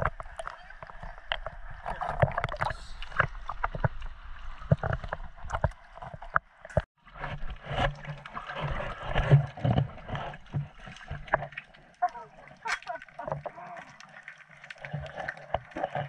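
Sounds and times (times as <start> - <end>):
seawater sloshing and splashing: 0.0 - 16.0
water slapping against camera: 0.0 - 16.0.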